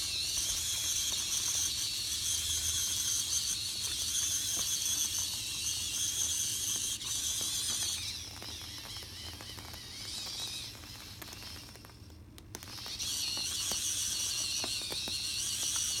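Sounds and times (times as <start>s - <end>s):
small electric motor whine: 0.0s - 16.0s.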